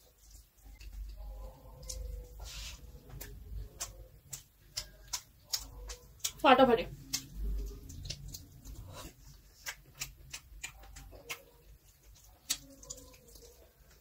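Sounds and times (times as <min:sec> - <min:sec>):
chewing and lip-smacking: 0:00.0 - 0:14.0.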